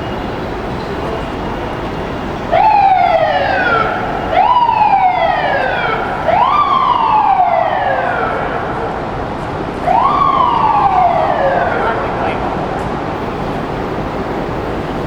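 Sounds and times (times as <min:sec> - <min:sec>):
fire engine siren: 0:00.0 - 0:15.0.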